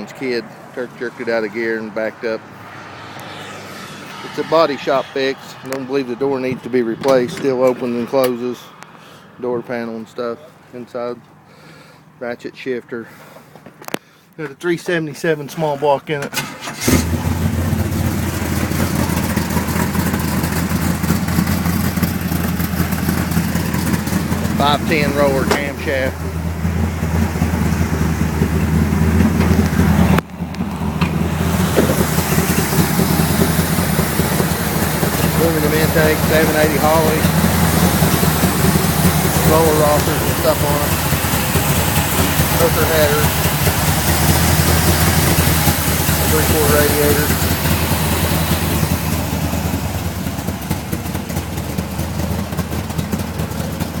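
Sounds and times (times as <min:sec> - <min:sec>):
car engine idling: 0:00.0 - 0:12.2, 0:13.1 - 0:54.0.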